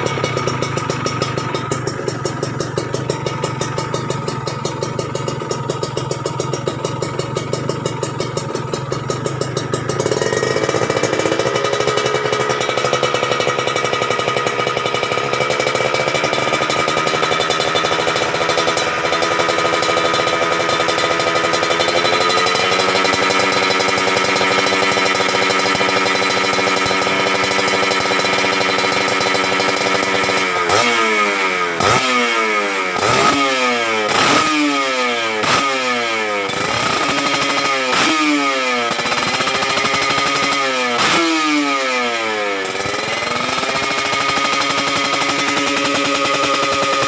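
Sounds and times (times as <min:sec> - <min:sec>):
two-stroke motorcycle engine revving: 0:00.0 - 0:47.0.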